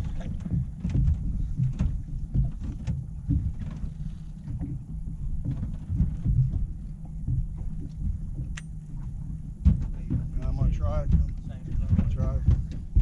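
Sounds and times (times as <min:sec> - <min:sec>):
waves slapping boat hull: 0:00.0 - 0:13.0
wind rumbling on microphone: 0:00.0 - 0:13.0.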